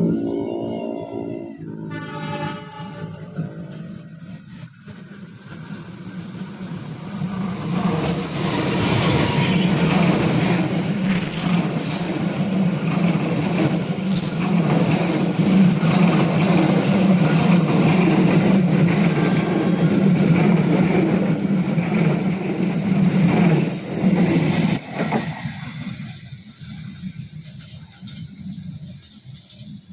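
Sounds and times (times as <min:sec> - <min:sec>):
train rumbling past: 0:00.0 - 0:29.9.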